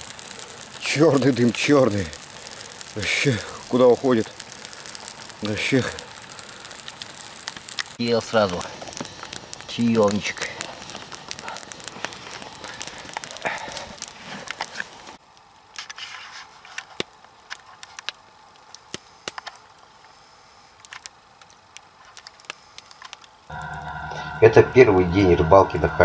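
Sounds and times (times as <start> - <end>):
burning logs popping: 0.0 - 24.6
campfire crackling: 0.0 - 26.0
hiss of flames: 0.0 - 26.0.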